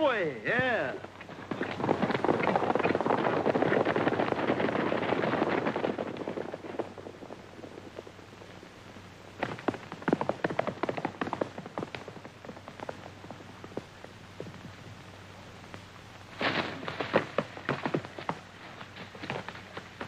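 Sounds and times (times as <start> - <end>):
horses galloping: 0.0 - 20.0
single horse galloping: 0.5 - 8.6, 9.3 - 20.0.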